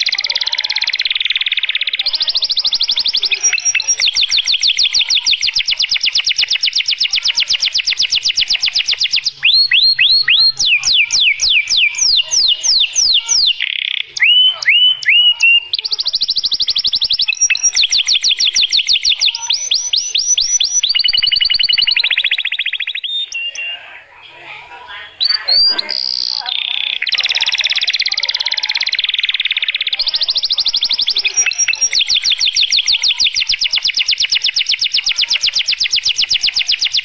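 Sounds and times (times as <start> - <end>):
canary singing: 0.0 - 37.0.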